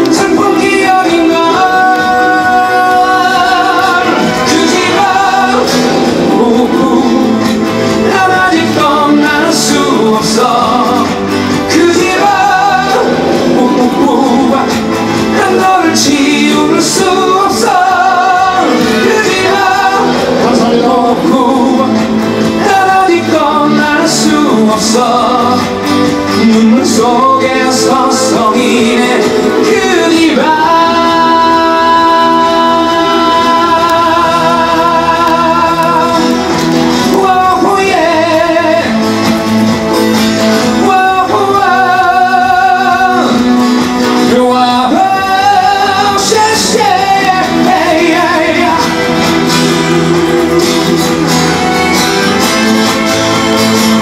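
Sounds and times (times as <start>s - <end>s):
acoustic guitar: 0.0s - 54.0s
drums: 0.0s - 54.0s
man singing: 0.0s - 54.0s.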